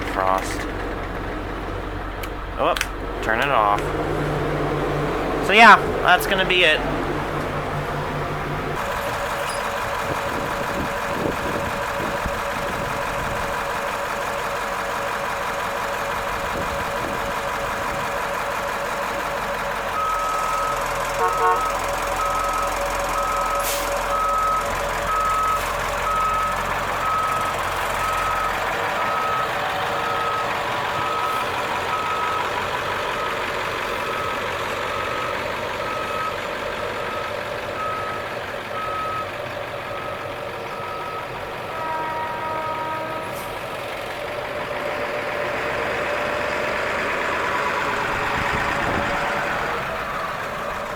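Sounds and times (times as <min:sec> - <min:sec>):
bus engine idling: 0:00.0 - 0:50.9.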